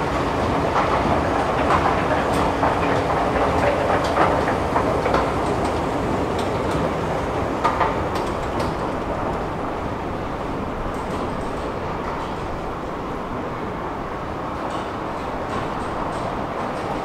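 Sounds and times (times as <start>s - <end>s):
escalator steps clacking: 0.0s - 13.5s, 14.5s - 17.0s
escalator mechanical rumble: 0.0s - 17.0s.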